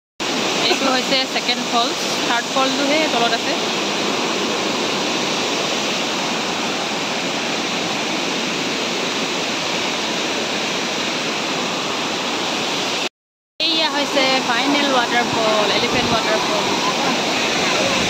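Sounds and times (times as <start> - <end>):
waterfall rushing: 0.2 - 18.0.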